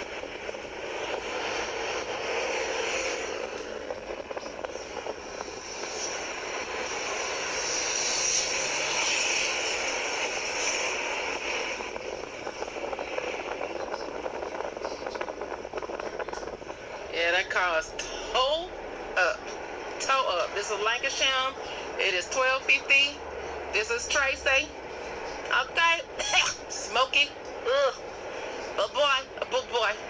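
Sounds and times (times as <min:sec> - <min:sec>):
rushing vehicle road noise: 0:00.0 - 0:30.0.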